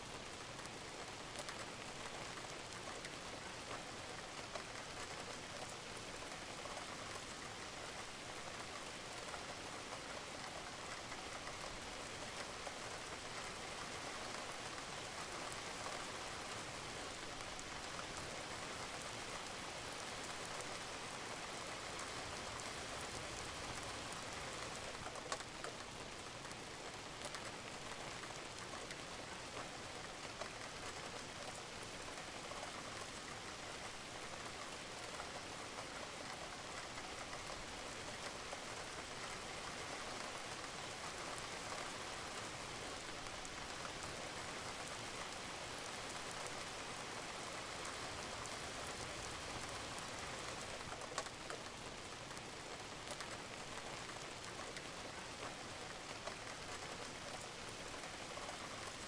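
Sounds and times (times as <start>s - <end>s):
rain on a roof: 0.0s - 59.0s.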